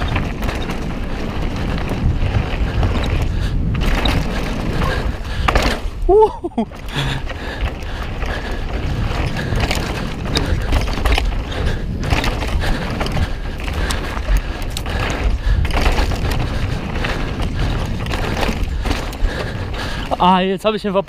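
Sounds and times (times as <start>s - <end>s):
bike and chain rattling: 0.0s - 21.0s
bike tyre noise: 0.0s - 21.0s
wind rumbling on microphone: 0.0s - 21.0s.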